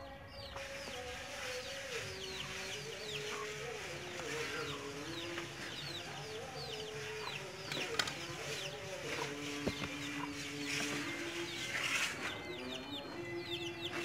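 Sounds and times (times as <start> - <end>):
chickens peeping and clucking: 0.0 - 14.0.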